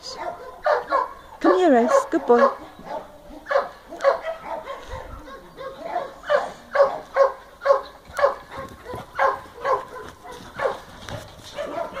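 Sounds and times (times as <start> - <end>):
dog play-barking: 0.1 - 12.0.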